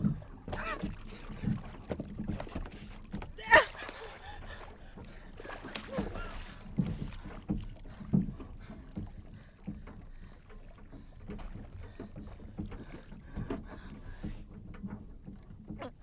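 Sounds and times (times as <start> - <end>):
boat knocking as it rocks: 0.0 - 16.0
water lapping against a hull: 0.0 - 16.0.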